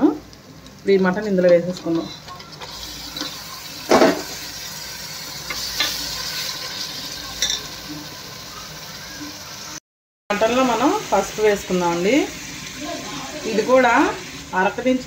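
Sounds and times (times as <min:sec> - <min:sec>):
meat sizzling in hot oil: 0:00.2 - 0:15.0.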